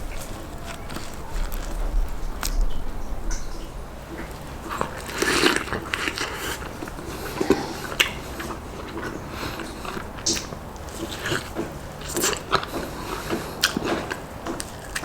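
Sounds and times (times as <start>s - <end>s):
person chewing with crunches: 0.0s - 15.0s.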